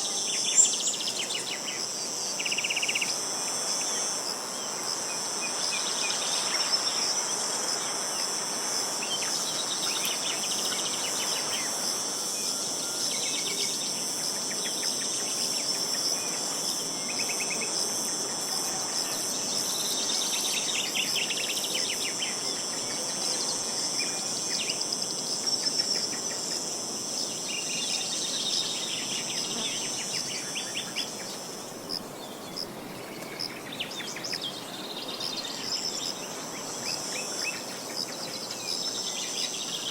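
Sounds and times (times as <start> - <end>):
high-pitched insect buzz: 0.0 - 39.9.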